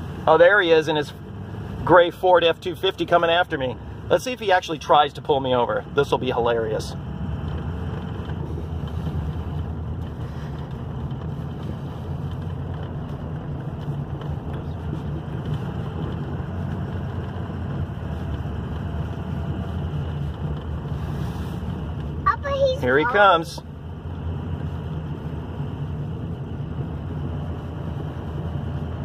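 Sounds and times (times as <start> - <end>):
vehicle engine and tyre rumble: 0.0 - 29.0.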